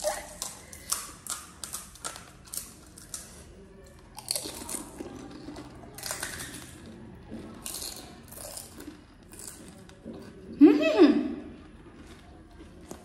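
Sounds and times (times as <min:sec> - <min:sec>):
crisp snacks crunching: 0:00.0 - 0:10.3, 0:11.6 - 0:13.0.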